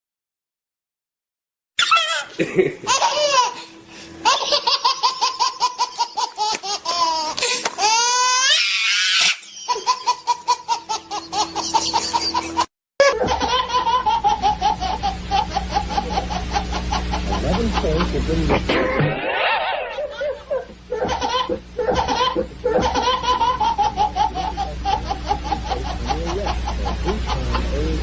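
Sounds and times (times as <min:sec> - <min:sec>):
high-pitched laughing: 0:01.8 - 0:28.0
steady low hum: 0:02.2 - 0:08.4, 0:09.5 - 0:28.0.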